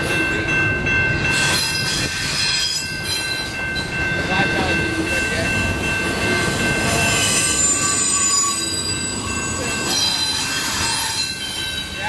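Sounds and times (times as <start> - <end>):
steel wheels squealing on rails: 0.0 - 12.0
train cars rumbling past: 0.0 - 12.0.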